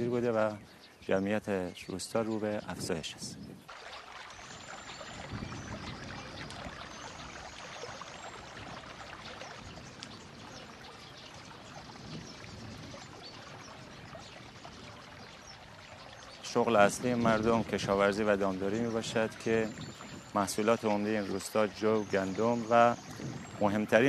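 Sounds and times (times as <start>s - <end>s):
running water: 2.4s - 24.0s.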